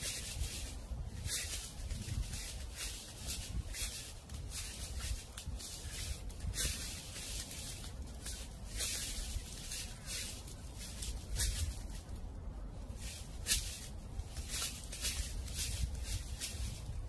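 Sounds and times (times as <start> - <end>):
dry leaves crunching underfoot: 0.0 - 17.0
wind rumble on microphone: 0.0 - 17.0.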